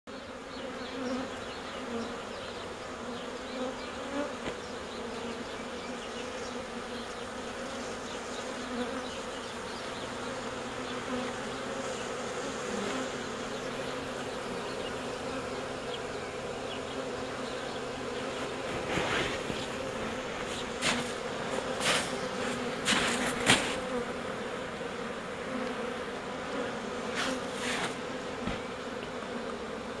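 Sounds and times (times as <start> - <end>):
bees buzzing: 0.1 - 30.0.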